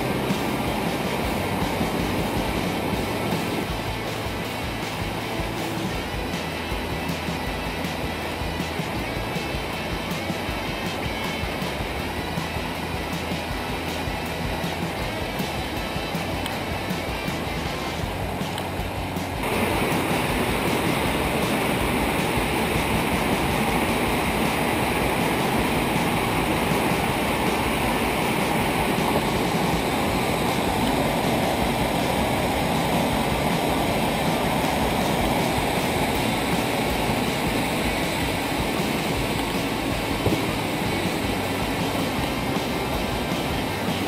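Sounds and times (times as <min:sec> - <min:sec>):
stream rushing over boulders: 0:00.0 - 0:44.0.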